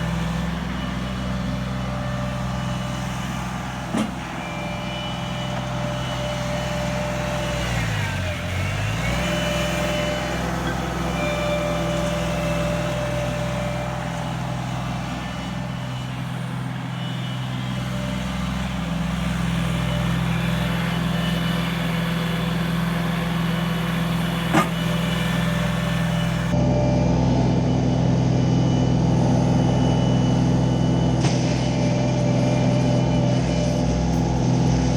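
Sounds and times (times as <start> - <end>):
skid steer engine running: 0.0 - 34.9.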